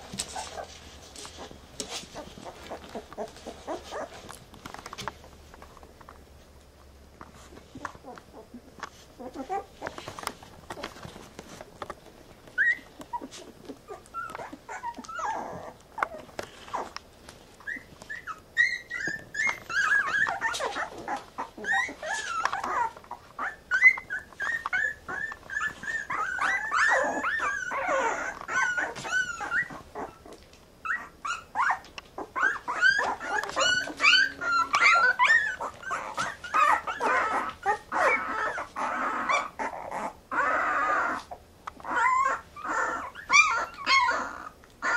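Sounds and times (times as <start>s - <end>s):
puppies squeaking and whimpering: 0.0s - 5.4s, 7.7s - 11.4s, 12.2s - 17.0s, 17.6s - 44.9s.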